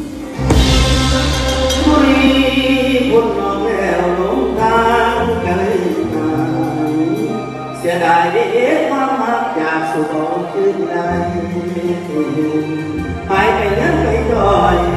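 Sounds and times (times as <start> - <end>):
low sustained backing music: 0.0 - 14.9
man singing into microphone: 1.7 - 14.9.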